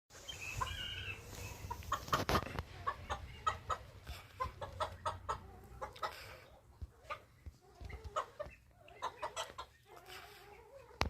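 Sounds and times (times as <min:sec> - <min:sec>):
chickens clucking: 0:00.1 - 0:11.0.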